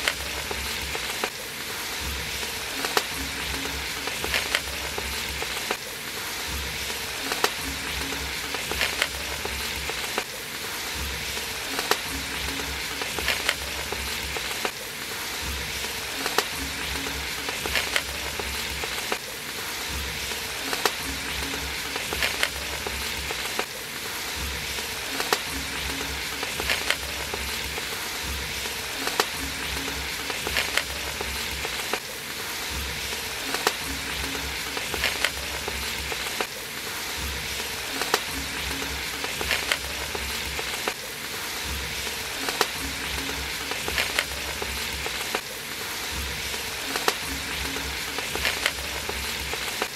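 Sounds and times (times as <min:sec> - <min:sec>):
onions sizzling in hot oil: 0:00.0 - 0:49.9.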